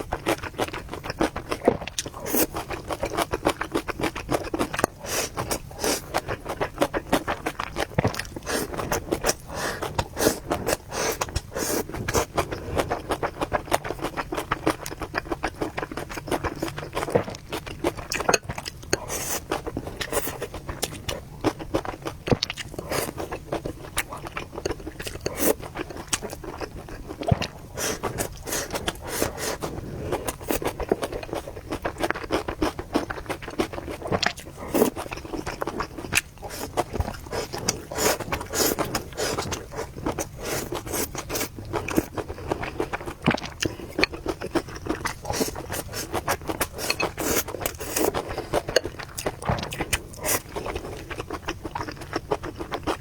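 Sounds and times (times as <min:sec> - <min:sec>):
person chewing noodles: 0:00.0 - 0:53.0.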